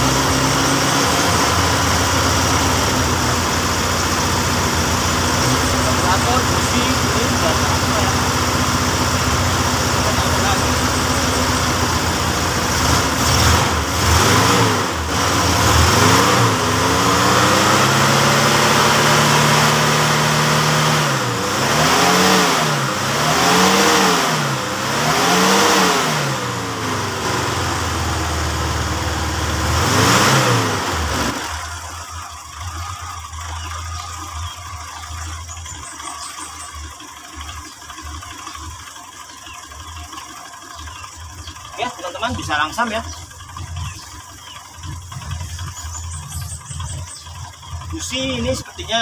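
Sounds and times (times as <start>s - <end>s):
car engine revving unevenly: 0.0s - 49.0s.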